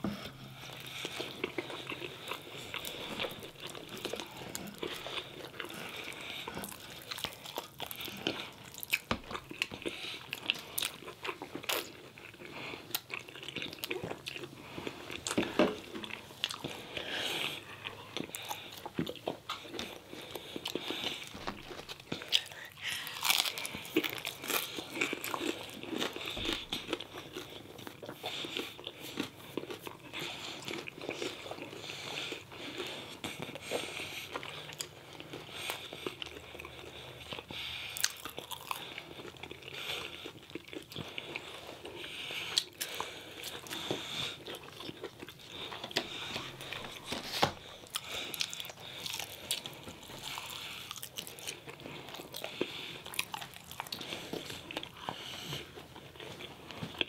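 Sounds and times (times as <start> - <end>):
person crunching and chewing food: 0.0 - 57.0.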